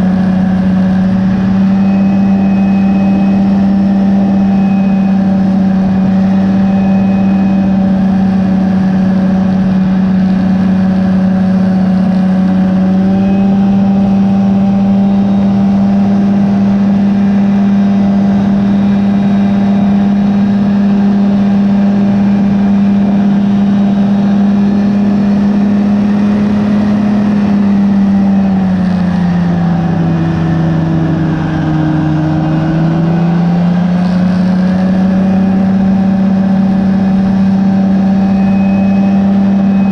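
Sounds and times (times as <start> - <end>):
ultralight engine and propeller: 0.0 - 39.9.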